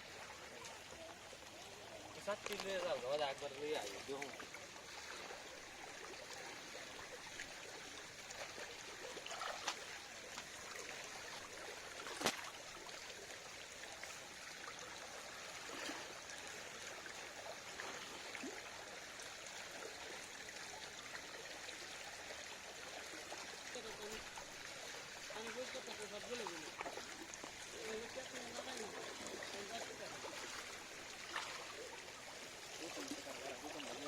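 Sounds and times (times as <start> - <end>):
water trickling: 0.0 - 34.0.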